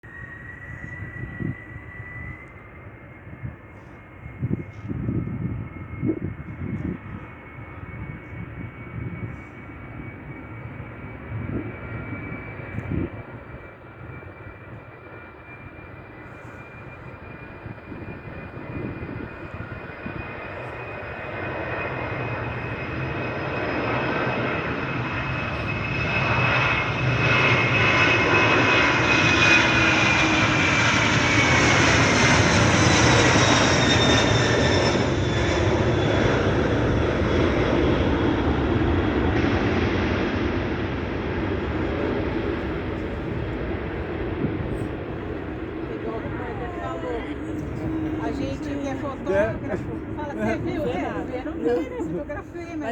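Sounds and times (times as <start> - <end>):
jet engine roar and whine: 0.0 - 52.9.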